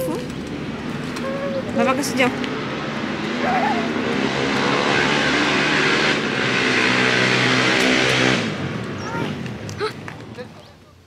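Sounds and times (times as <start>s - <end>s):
engine running: 0.0s - 10.6s.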